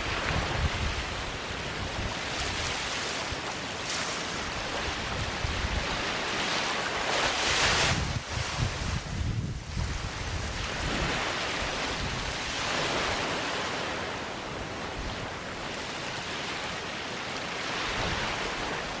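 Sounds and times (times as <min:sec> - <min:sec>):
small waves washing onto beach: 0:00.0 - 0:19.0
wind gusts on microphone: 0:00.0 - 0:19.0.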